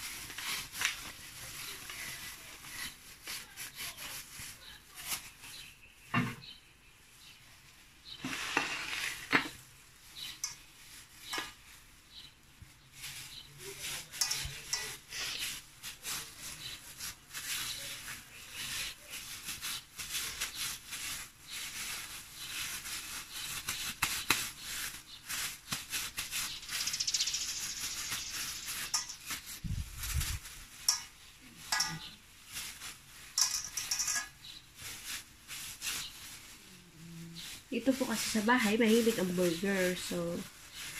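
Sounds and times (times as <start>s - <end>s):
plastic gloves crinkling: 0.0s - 40.9s.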